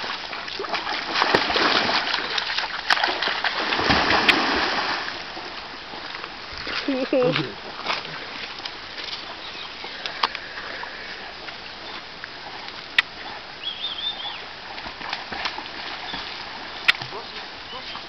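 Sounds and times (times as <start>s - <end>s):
water splashing: 0.0s - 18.0s.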